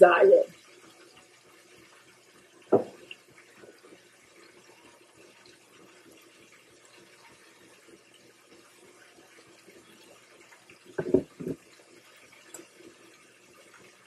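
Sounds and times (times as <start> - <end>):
meat patties sizzling in oil: 0.0 - 14.0.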